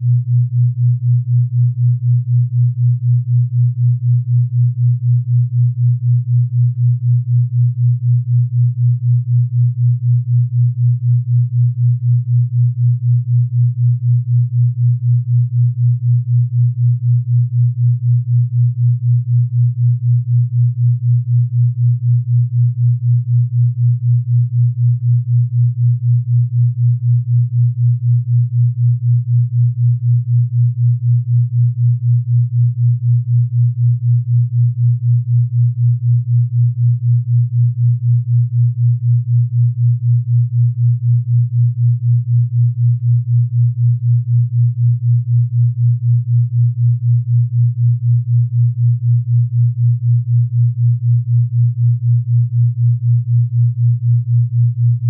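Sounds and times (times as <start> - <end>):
low pulsing pure tone: 0.0 - 55.0.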